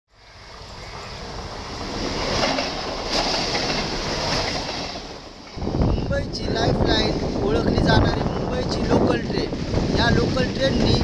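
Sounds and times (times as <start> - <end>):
electric train running past: 0.1 - 11.0.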